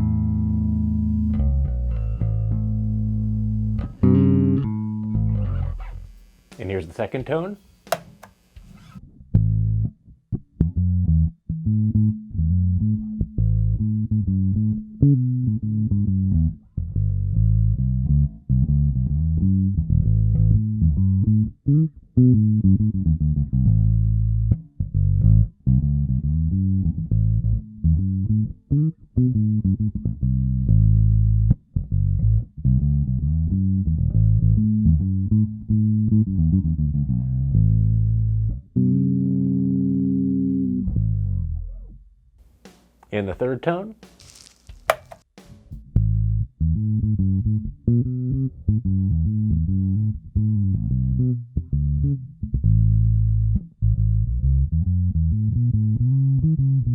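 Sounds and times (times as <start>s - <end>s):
electric bass plucked notes: 0.0s - 8.4s, 9.0s - 42.1s, 45.9s - 56.9s.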